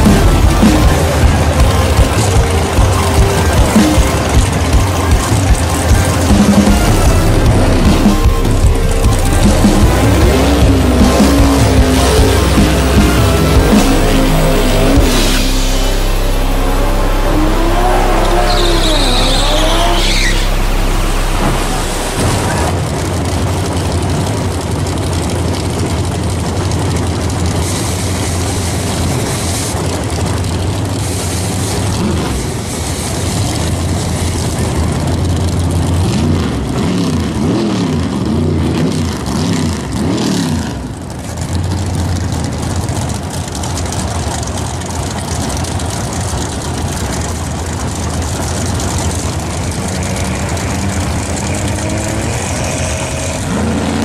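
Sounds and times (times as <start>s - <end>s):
engines revving: 0.0s - 54.0s
race car engines idling: 0.0s - 54.0s.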